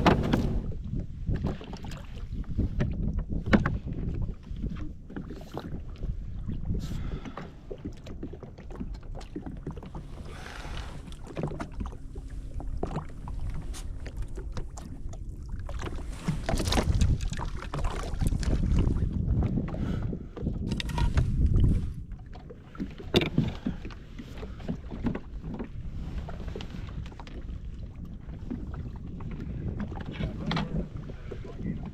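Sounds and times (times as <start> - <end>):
water slapping against hull: 0.0 - 31.9
wind buffeting microphone: 0.0 - 31.9.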